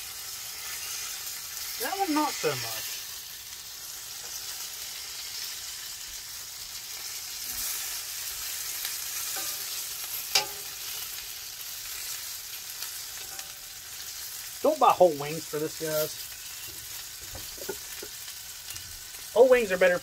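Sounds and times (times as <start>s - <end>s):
chicken wings sizzling on grill: 0.0s - 20.0s.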